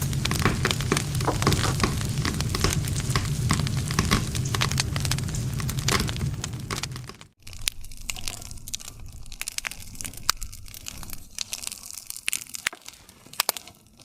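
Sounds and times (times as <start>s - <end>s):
campfire crackling and popping: 0.0s - 14.0s
low rumble of burning fire: 0.0s - 14.0s.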